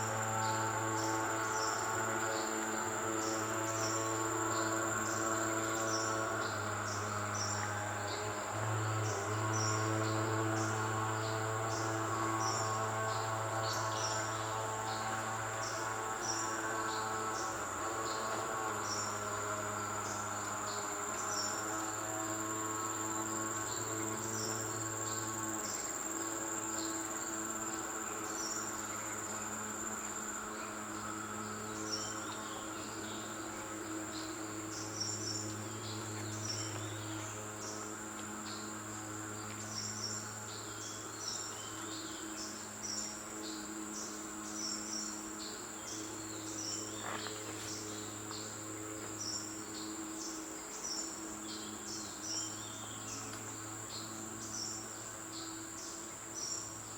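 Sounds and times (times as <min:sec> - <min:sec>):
insects chirring: 0:00.0 - 0:56.9
low steady hum: 0:00.0 - 0:56.9.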